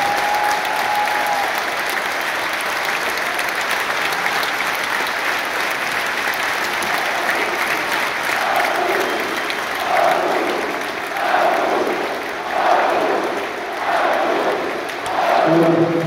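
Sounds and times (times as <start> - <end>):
crowd clapping: 0.0 - 16.0.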